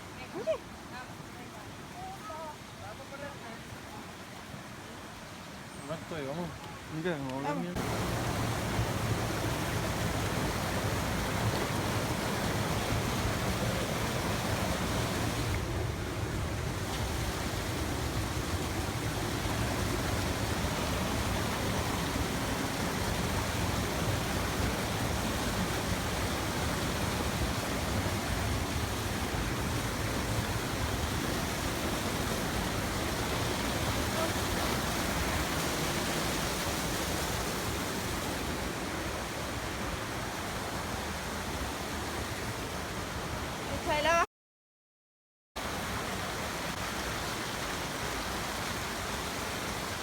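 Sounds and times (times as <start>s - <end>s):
flowing water rushing: 0.0s - 44.2s, 45.6s - 50.0s.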